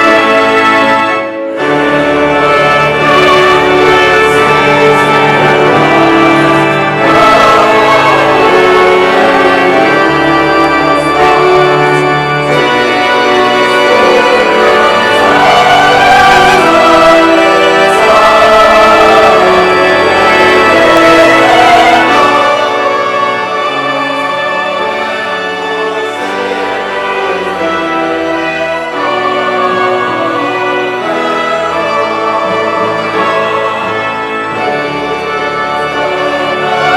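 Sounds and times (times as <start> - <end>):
church choir singing: 0.0 - 36.9
keyboard accompaniment: 0.0 - 36.9.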